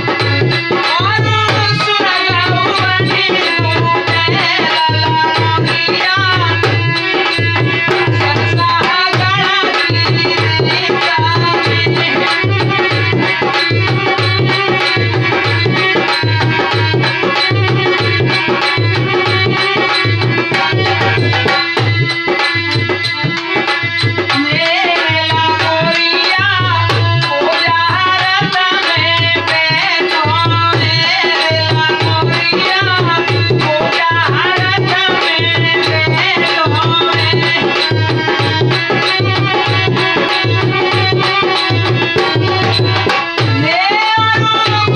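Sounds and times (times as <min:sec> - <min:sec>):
dholak drum beat: 0:00.0 - 0:44.9
harmonium chords: 0:00.0 - 0:44.9.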